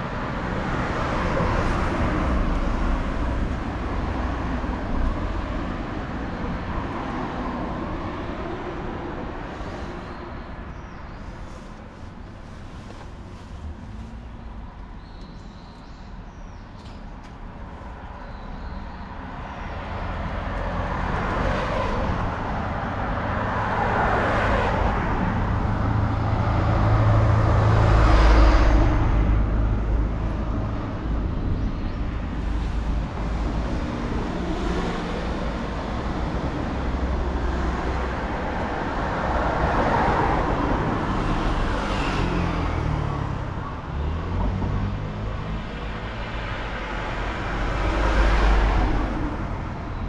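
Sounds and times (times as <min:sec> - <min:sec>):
cars passing: 0:00.0 - 0:16.4, 0:17.1 - 0:50.0.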